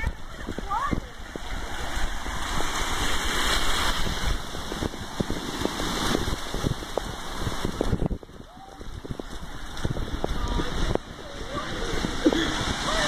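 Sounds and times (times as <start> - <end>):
rainwater rushing down steps: 0.0 - 13.0.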